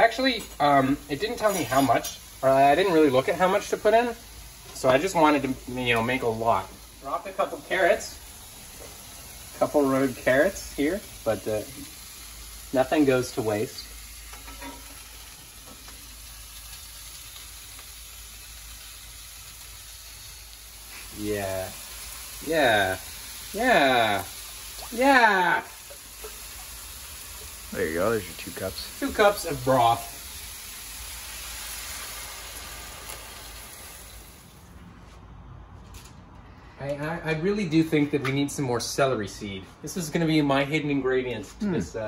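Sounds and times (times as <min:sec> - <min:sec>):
vegetables sizzling in a frying pan: 0:00.0 - 0:34.6.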